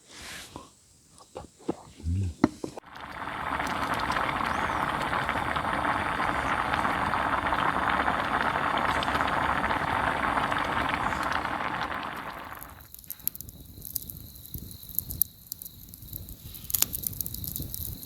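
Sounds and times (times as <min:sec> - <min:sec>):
pork sizzling in a hot pan: 0:02.8 - 0:18.0.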